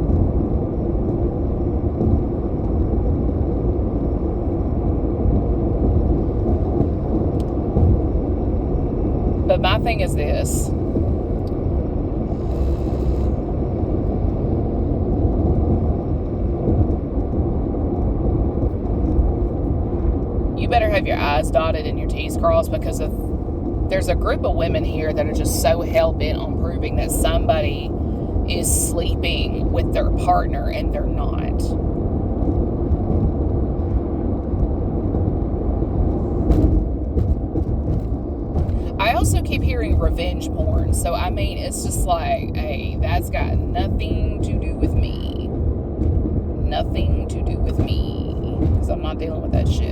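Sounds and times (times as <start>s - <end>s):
steady low rumbling: 0.0s - 49.9s.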